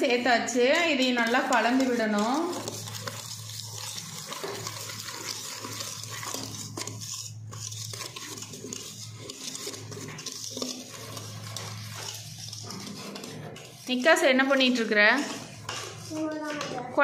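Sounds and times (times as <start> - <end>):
metal utensil scraping steel bowl: 0.0 - 17.0.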